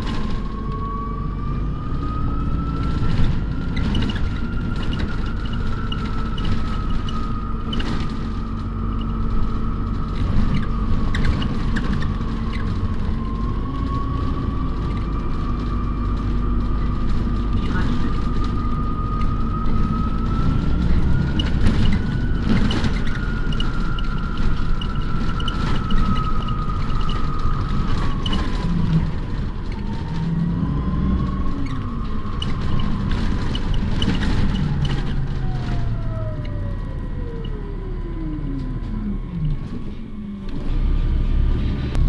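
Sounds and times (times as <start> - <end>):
bus drivetrain whine: 0.0 - 42.0
bus ride rumble: 0.0 - 42.0.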